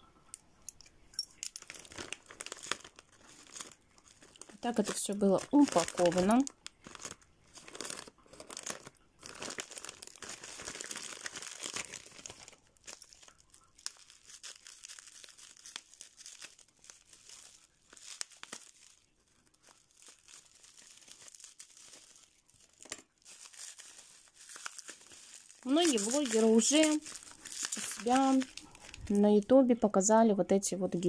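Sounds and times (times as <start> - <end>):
plastic film crinkling: 1.4 - 29.6.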